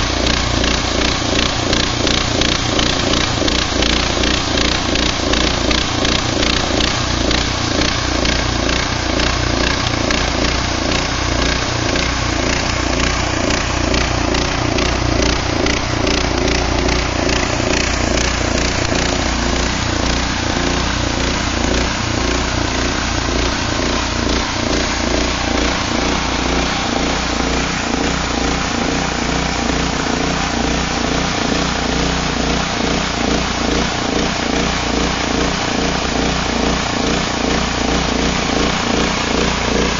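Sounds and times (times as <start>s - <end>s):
band sawmill cutting wood: 0.0s - 39.9s.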